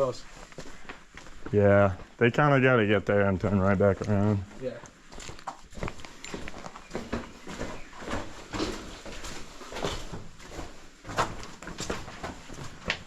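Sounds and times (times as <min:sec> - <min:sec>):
footsteps on a trail: 0:00.0 - 0:02.2, 0:03.1 - 0:13.0.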